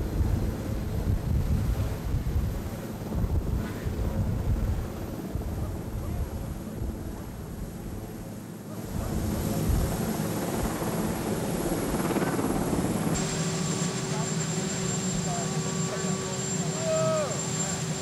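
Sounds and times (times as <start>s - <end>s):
helicopter turbine and rotor rumble: 0.0s - 18.0s.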